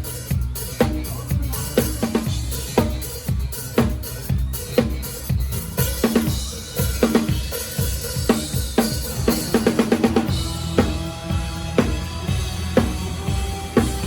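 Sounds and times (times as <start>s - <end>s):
drum kit playing a beat: 0.0s - 14.0s.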